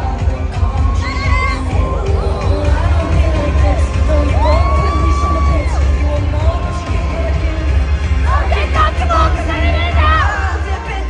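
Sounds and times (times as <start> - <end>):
pop song through sound system: 0.0 - 11.0.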